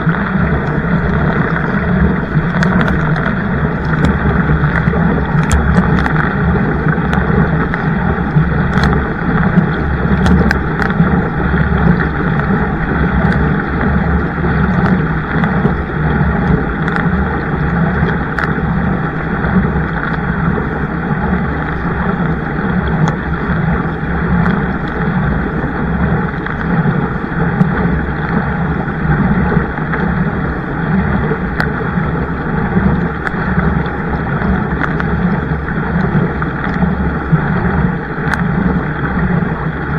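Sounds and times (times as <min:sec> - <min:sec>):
faint clicks: 0:00.0 - 0:39.9
water rushing: 0:00.0 - 0:39.9.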